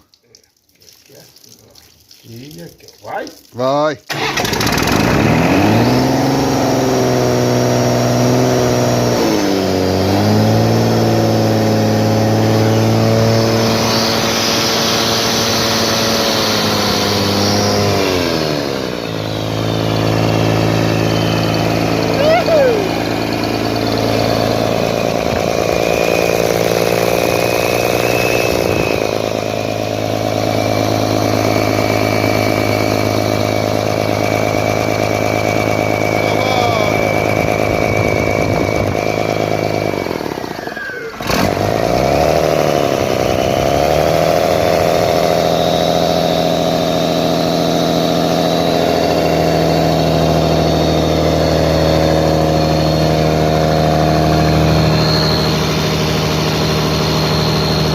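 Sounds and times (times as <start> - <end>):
diesel engine running: 4.1 - 57.9.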